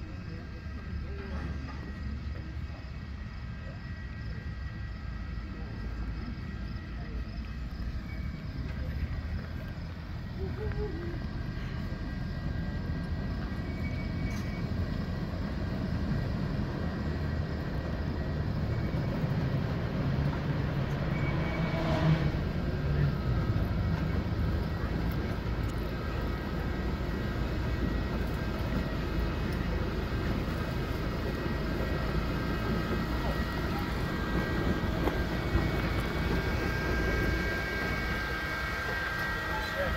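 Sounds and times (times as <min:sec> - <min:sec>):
miniature train engine rumble: 0:00.0 - 0:39.9.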